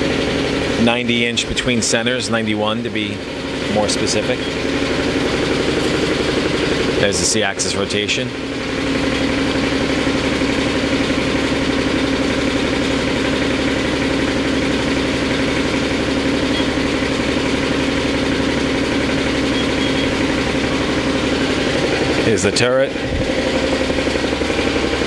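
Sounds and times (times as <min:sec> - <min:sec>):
air compressor running: 0:00.0 - 0:25.0
lathe mechanical hum: 0:00.0 - 0:25.0.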